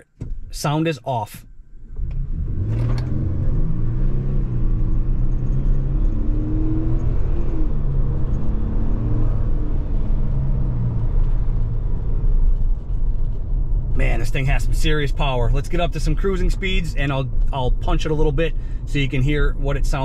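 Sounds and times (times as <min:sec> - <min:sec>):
engine accelerating through gears: 0:01.8 - 0:19.2.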